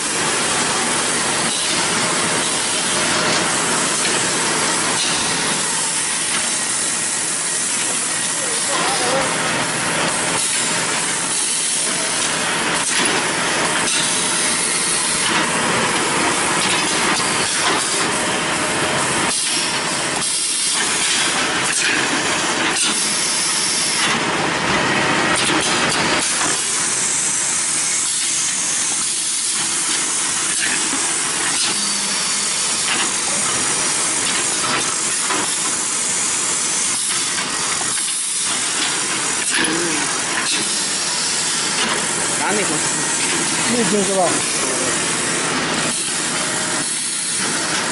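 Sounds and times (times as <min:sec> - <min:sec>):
machine hissing: 0:00.0 - 0:47.9.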